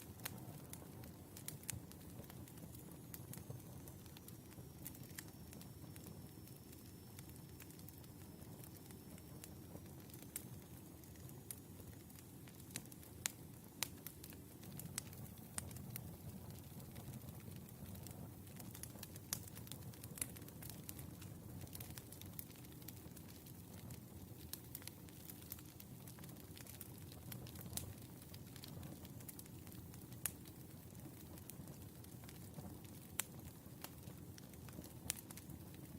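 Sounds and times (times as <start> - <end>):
firewood crackling and popping: 0.0 - 35.9
low rumble of flames: 0.0 - 35.9.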